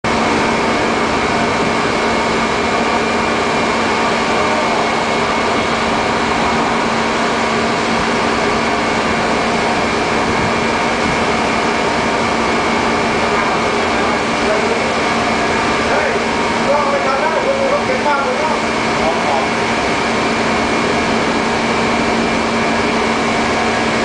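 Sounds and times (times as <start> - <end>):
low machinery hum: 0.0 - 24.0
steady high whine: 0.0 - 24.0.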